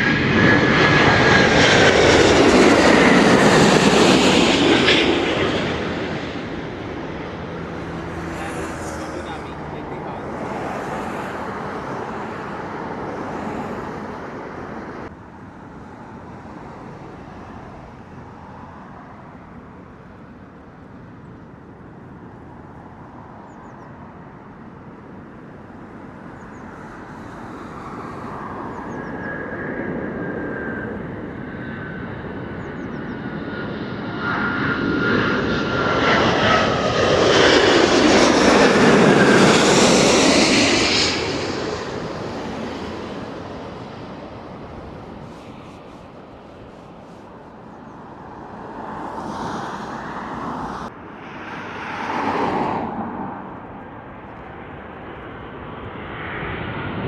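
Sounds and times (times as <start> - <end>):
jet airliner passing overhead: 0.0 - 57.0.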